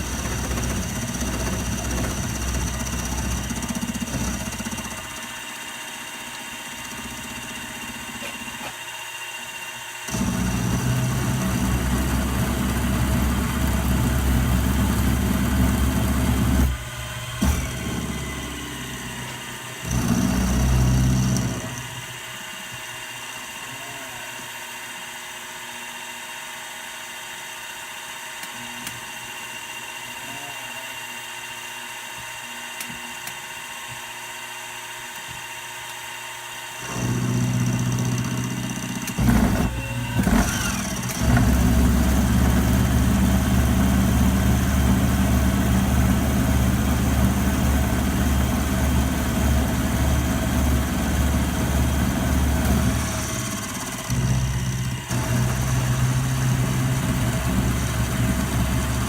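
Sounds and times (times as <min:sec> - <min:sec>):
machine tool motor running: 0:00.0 - 0:59.0.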